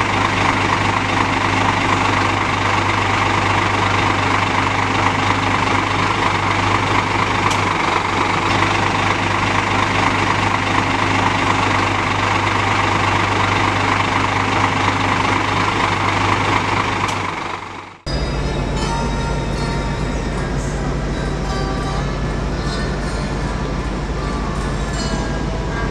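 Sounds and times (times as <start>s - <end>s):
coach engine humming: 0.0s - 25.9s.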